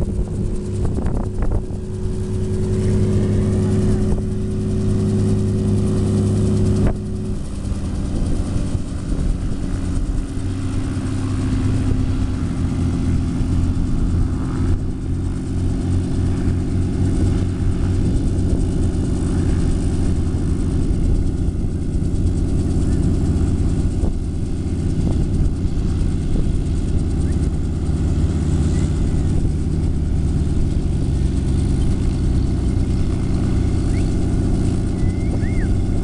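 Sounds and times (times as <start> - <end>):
helicopter engine drone: 0.0 - 36.0
helicopter rotor beat: 0.0 - 36.0.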